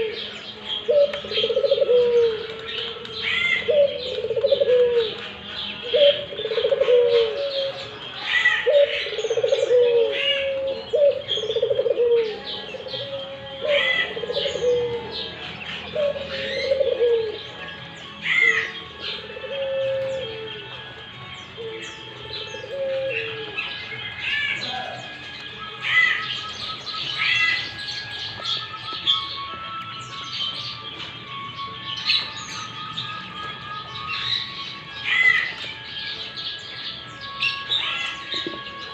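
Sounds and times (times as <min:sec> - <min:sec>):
dove cooing: 0:00.0 - 0:29.5, 0:33.4 - 0:38.9
birds chirping: 0:00.0 - 0:38.9.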